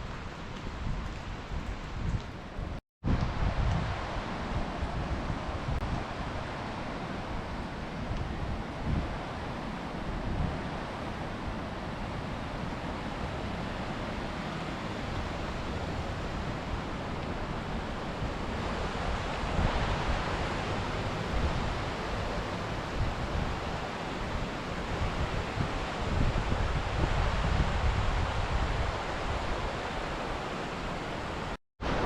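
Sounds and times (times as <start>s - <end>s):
wind buffeting microphone: 0.0s - 32.0s
running water rushing: 3.1s - 32.0s.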